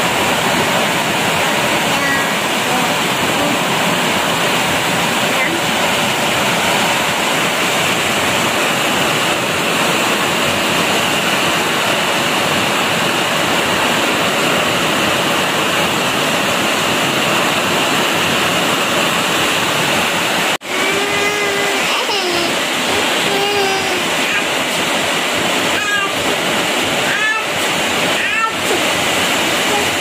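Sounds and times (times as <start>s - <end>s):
heavy rain on trees and ground: 0.0s - 30.0s.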